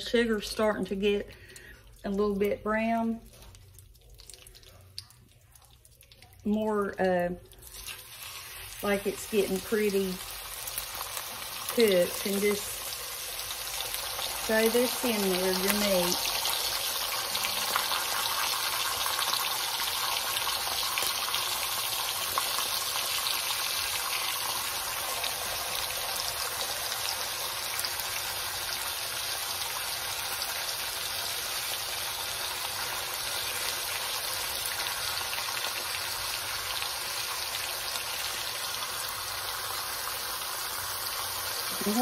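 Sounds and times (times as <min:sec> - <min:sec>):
steak sizzling in a hot pan: 0:07.7 - 0:42.0.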